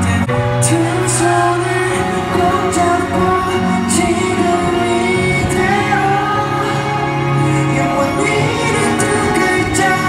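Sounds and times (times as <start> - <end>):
live pop music with singing: 0.0 - 10.0.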